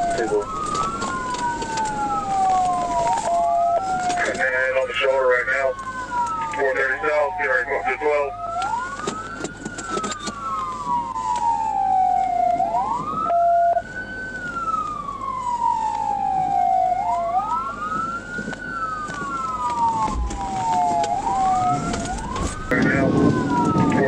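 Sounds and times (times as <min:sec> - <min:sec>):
police siren wailing: 0:00.0 - 0:24.0.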